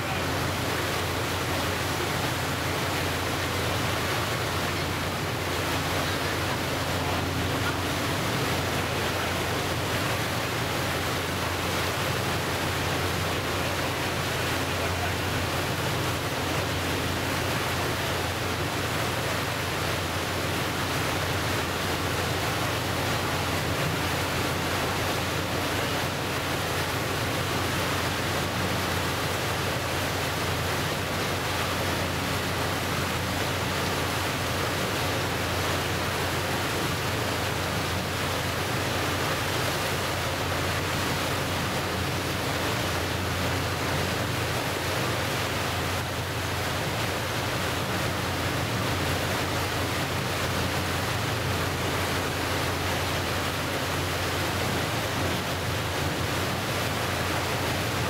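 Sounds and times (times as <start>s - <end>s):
boat engine hum: 0.0s - 58.0s
water rushing around boat: 0.0s - 58.0s.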